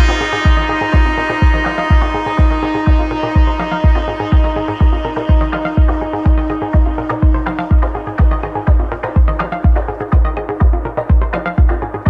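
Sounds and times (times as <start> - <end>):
held low note: 0.0 - 12.0
kick drum beat: 0.0 - 12.0.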